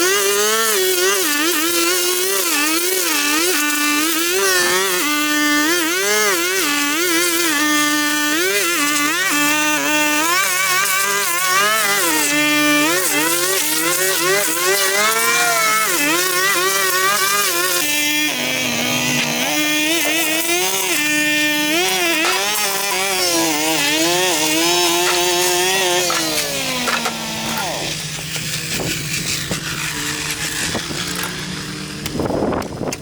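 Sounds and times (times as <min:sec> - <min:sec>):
two-stroke yard tool engine revving: 0:00.0 - 0:33.0.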